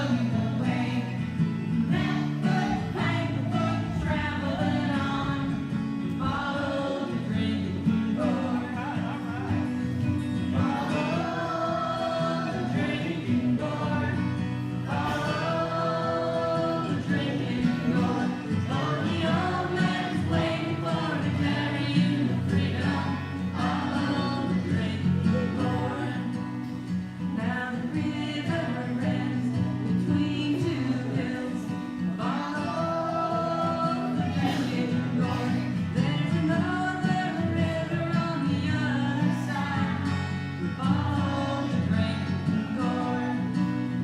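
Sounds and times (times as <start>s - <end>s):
group of voices singing: 0.0s - 44.0s.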